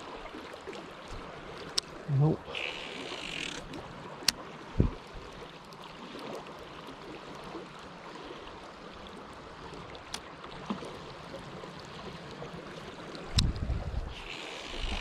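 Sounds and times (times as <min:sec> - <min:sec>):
fast river current rushing: 0:00.0 - 0:15.0.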